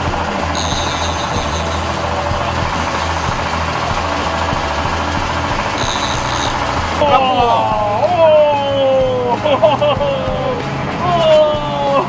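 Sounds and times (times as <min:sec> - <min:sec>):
boat engine running: 0:00.0 - 0:11.7.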